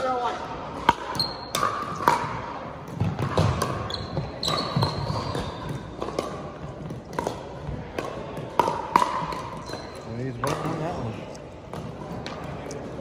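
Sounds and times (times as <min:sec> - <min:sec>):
ball bouncing on hardwood court: 0:00.8 - 0:13.0.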